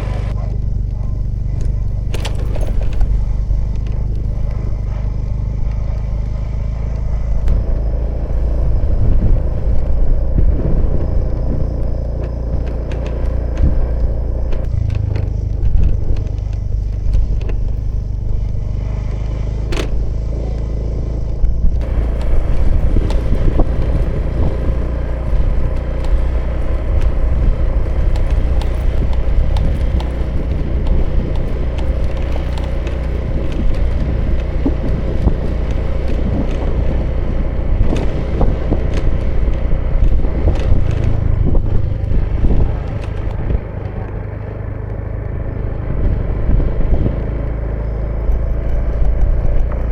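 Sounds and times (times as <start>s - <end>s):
rushing wind and road noise: 0.0s - 49.9s
scooter engine running: 0.0s - 49.9s.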